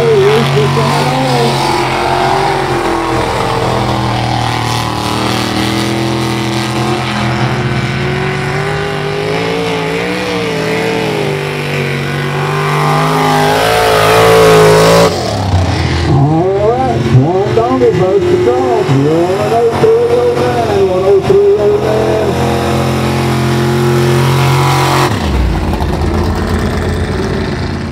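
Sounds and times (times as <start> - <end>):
tires churning through mud: 0.0 - 27.9
truck engine at full throttle: 0.0 - 27.9.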